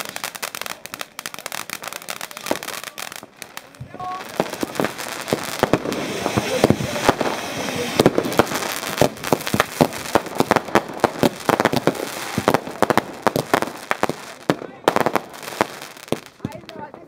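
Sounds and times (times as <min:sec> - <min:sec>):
fireworks and firecrackers banging: 0:00.0 - 0:17.0.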